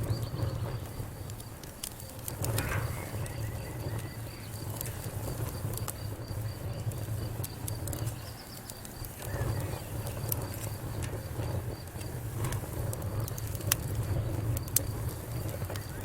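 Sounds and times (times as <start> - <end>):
fire hissing: 0.0 - 16.0
wood fire crackling and popping: 0.0 - 16.0.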